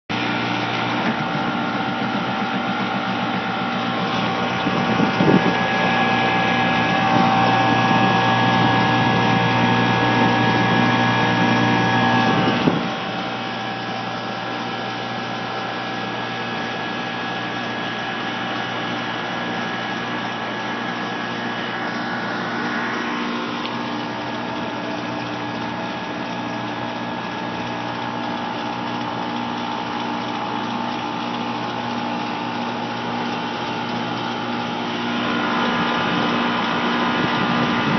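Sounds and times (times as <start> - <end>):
air conditioning compressor humming: 0.1 - 37.9.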